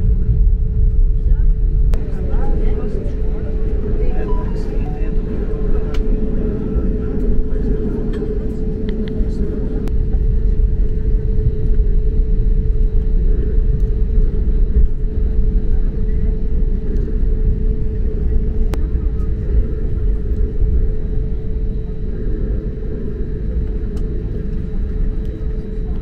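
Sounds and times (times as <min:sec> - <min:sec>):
aircraft cabin rumble: 0:00.0 - 0:26.0
constant hum: 0:00.0 - 0:26.0.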